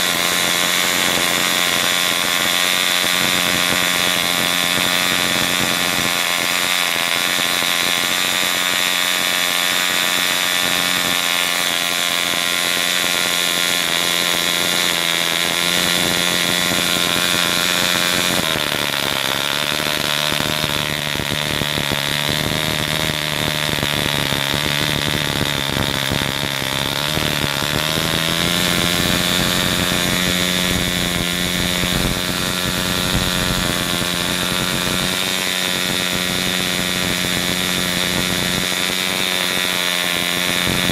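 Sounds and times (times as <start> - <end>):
model airplane engine buzzing: 0.0 - 40.9.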